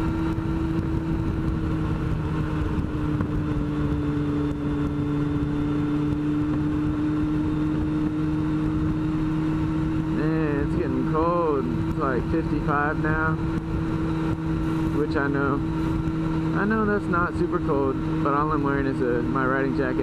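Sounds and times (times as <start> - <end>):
motorcycle engine cruising: 0.0 - 20.0
wind rumble on microphone: 0.0 - 20.0.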